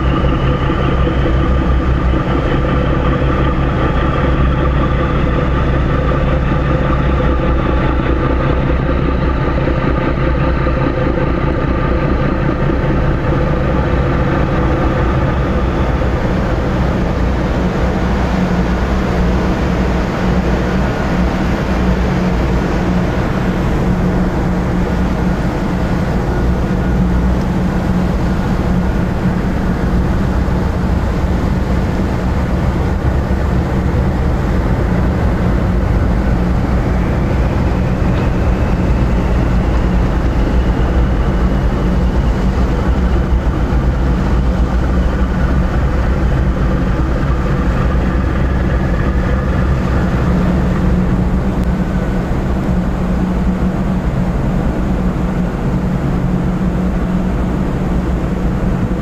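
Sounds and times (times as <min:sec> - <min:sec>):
deep hum: 0:00.0 - 0:59.0
ship engines droning: 0:00.0 - 0:59.0.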